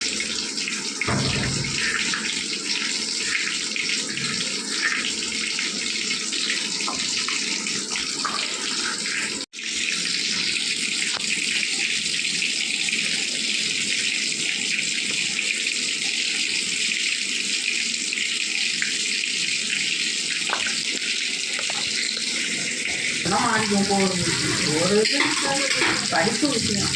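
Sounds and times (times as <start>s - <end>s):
tap water running into sink: 0.0s - 26.9s.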